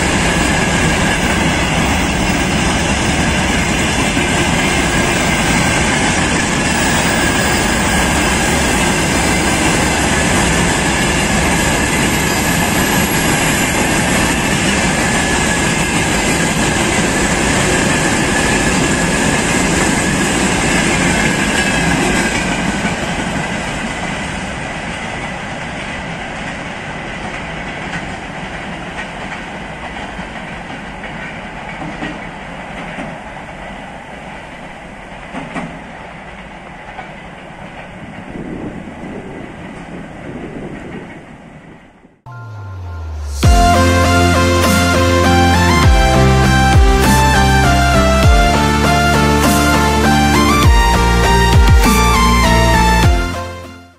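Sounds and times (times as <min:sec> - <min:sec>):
freight train rolling past: 0:00.0 - 0:53.7.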